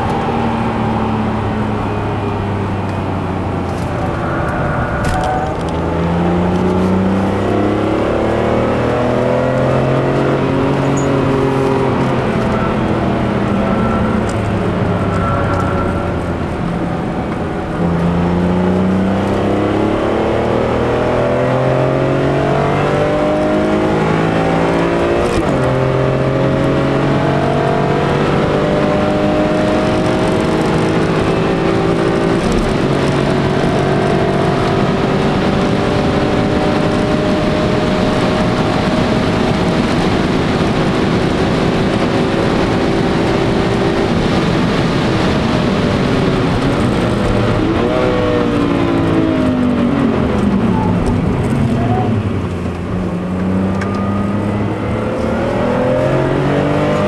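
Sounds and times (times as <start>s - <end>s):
car engine at full throttle: 0.0s - 57.0s
road and tyre noise: 0.0s - 57.0s.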